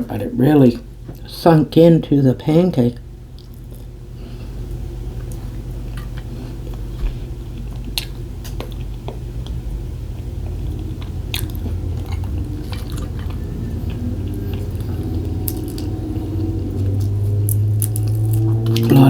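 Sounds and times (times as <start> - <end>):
steady low hum: 0.0 - 19.0
person chewing food: 3.3 - 19.0.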